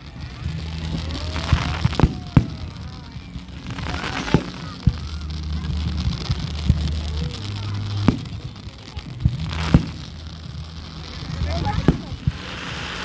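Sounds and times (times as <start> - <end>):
firework bangs: 0.0 - 13.0
firework crackling: 0.0 - 13.0
low rumble: 0.0 - 13.0.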